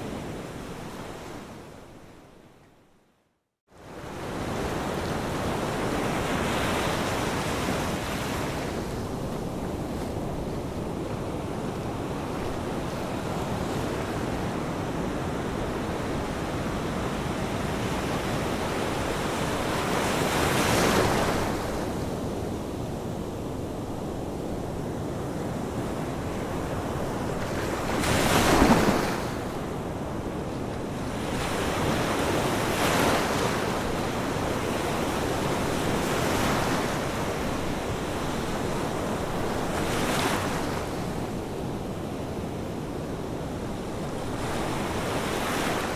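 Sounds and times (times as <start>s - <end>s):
ocean waves breaking on shore: 3.8s - 22.3s, 24.1s - 45.9s.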